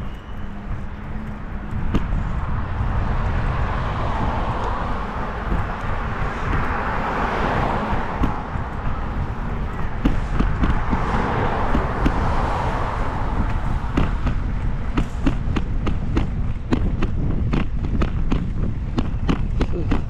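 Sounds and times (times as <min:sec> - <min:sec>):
road traffic passing: 0:00.0 - 0:20.0
wind rushing over microphone: 0:00.0 - 0:20.0.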